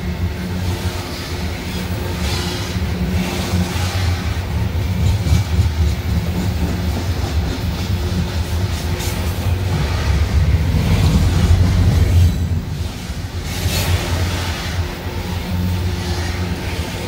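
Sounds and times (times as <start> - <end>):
freight train wheels rumbling: 0.0 - 17.0
train wheels clickety-clack: 0.0 - 17.0.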